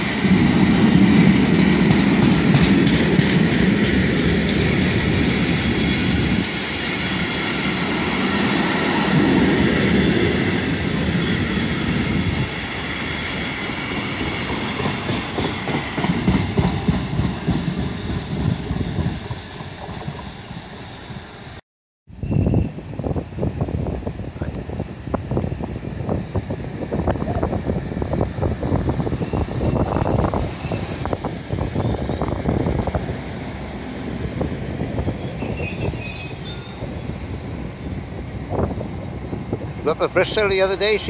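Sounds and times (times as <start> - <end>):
freight train rolling past: 0.0 - 21.6, 22.2 - 41.0.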